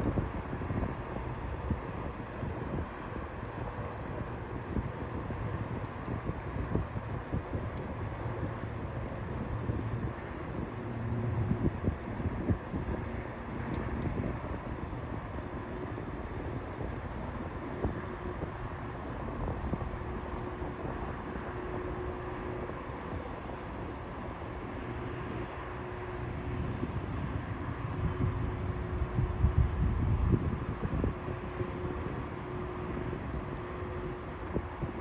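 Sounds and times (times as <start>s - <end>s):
faint steady hum: 0.0s - 35.0s
wind buffeting microphone: 0.0s - 35.0s.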